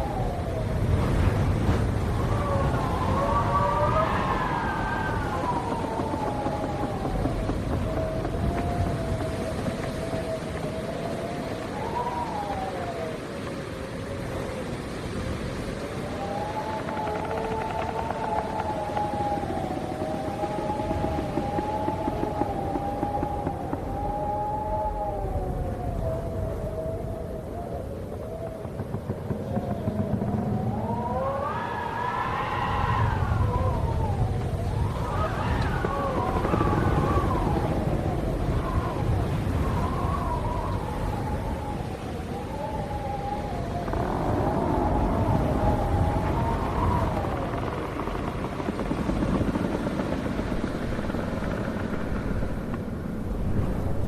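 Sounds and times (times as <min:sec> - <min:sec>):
low rumble of gusts: 0:00.0 - 0:54.0
wind howling: 0:00.0 - 0:54.0.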